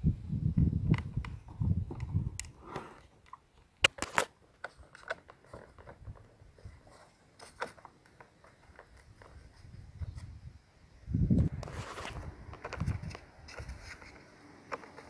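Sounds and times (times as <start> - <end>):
plastic wheel clicks and rustles: 0.9 - 10.2, 11.5 - 15.0.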